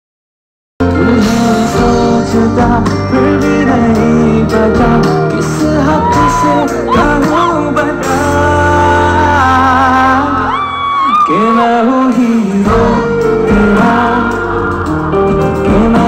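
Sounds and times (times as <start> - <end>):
live band with lead singer: 0.8 - 16.0.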